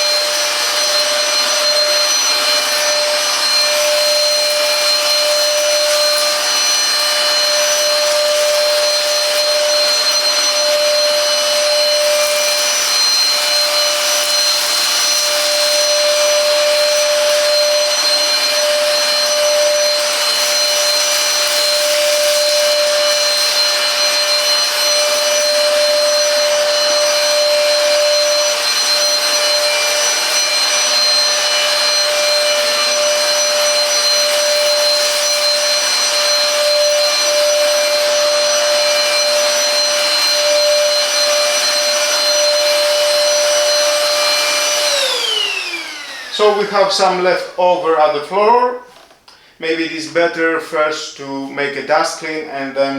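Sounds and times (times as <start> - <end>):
handheld vacuum cleaner whining: 0.0 - 52.9.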